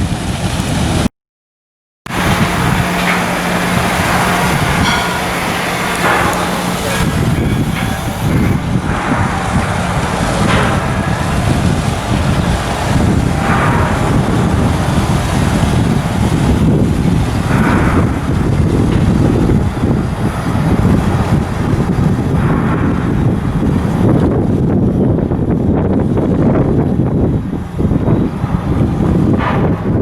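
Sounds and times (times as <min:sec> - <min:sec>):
cargo ship low rumble: 0:00.0 - 0:01.1, 0:02.1 - 0:30.0
wind on microphone: 0:00.0 - 0:01.1, 0:02.1 - 0:30.0.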